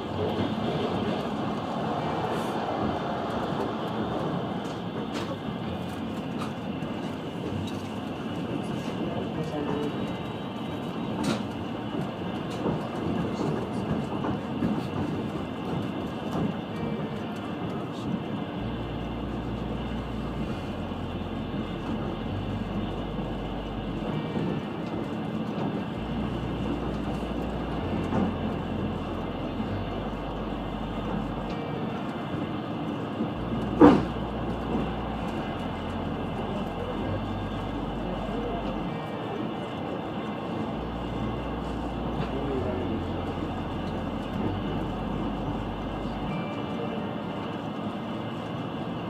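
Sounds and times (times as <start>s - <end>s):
train carriage rumbling: 0.0s - 49.0s.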